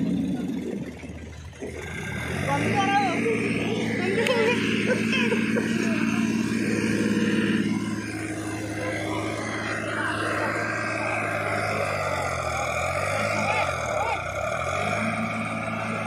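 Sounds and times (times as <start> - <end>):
tractor diesel engine straining: 0.0 - 16.0.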